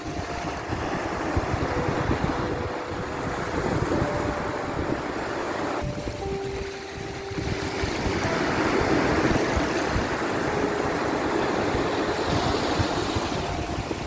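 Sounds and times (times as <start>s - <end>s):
faint soft music: 0.0s - 14.0s
sea surf washing ashore: 0.0s - 14.0s.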